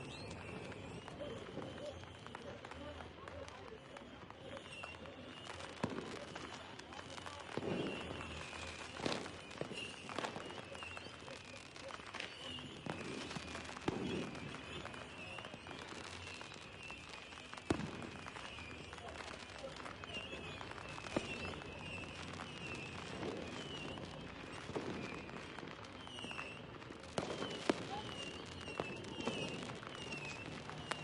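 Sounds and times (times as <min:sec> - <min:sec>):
distant fireworks popping: 0:00.0 - 0:31.0.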